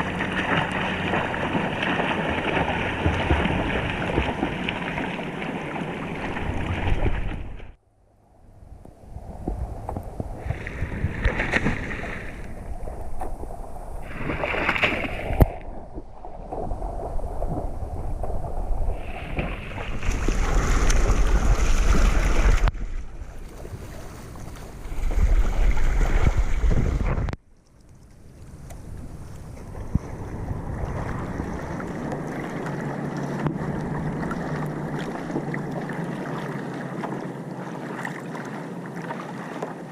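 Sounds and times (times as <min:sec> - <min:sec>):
swimmer splashing strokes: 0:00.0 - 0:07.8, 0:10.4 - 0:27.2, 0:28.8 - 0:39.9
wind rumbling on microphone: 0:00.0 - 0:36.3.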